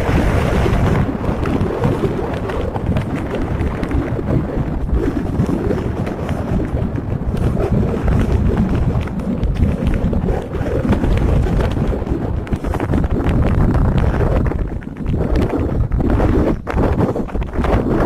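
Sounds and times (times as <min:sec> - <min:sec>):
wind rumbling over microphone: 0:00.0 - 0:18.0.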